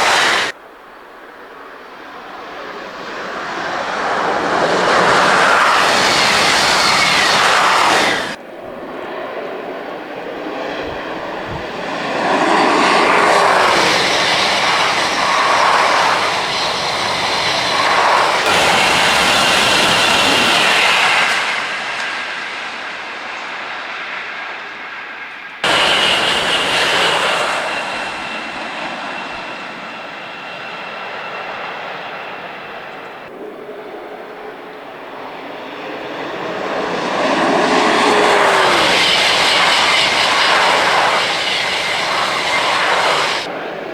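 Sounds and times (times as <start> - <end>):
high-speed train passing: 0.0 - 43.9.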